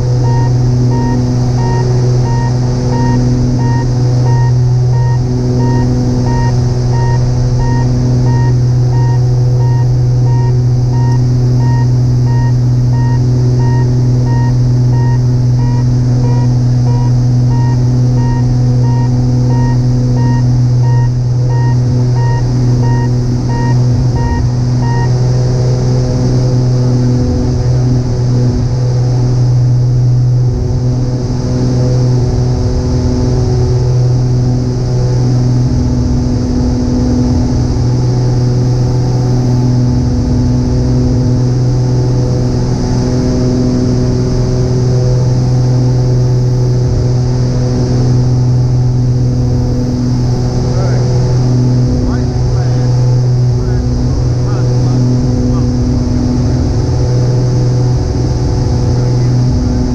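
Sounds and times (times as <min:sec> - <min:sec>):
faint pulsing tone: 0:00.0 - 0:59.9
light aircraft engine drone: 0:00.0 - 0:59.9
low hum: 0:00.0 - 0:59.9.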